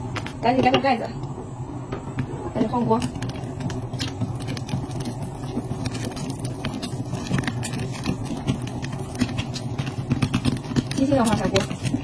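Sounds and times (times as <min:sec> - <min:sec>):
popcorn popping in pot: 0:00.0 - 0:01.3, 0:02.0 - 0:12.0
pot rumbling on burner: 0:01.8 - 0:12.0.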